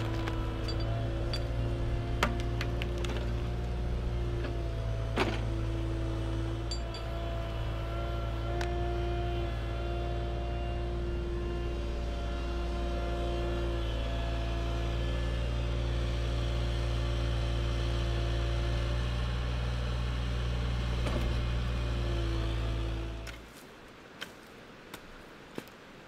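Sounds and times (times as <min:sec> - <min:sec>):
excavator diesel engine droning: 0:00.0 - 0:23.4.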